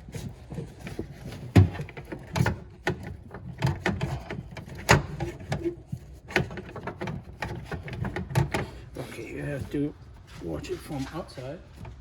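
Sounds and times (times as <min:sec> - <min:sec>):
car parts clicking and knocking: 0:00.0 - 0:09.8.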